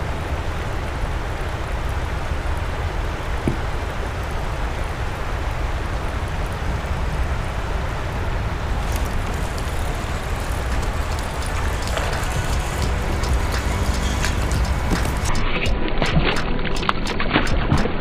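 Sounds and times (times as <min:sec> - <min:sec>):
river rushing over riffles: 0:00.0 - 0:15.4
wind rumble on microphone: 0:00.0 - 0:17.3.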